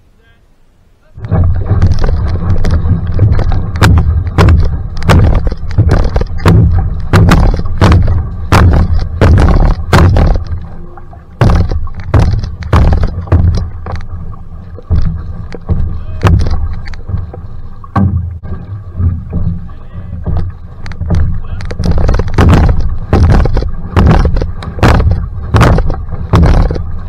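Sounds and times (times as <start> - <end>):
steady low rumble: 0.0 - 27.0
paddle splashing into water: 1.2 - 27.0.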